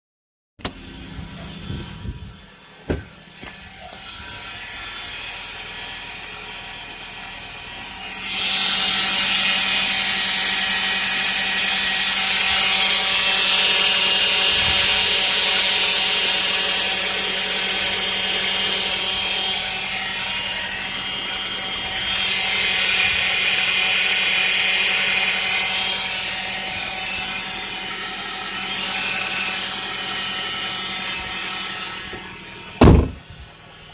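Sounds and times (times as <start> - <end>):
car engine running: 0.6 - 33.9
power steering pump whine: 0.6 - 33.9.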